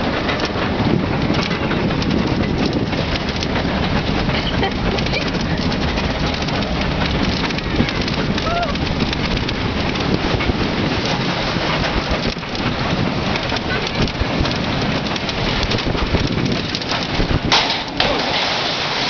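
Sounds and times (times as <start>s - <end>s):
wheels rumbling on track: 0.0s - 19.0s
wind on microphone: 0.0s - 19.0s.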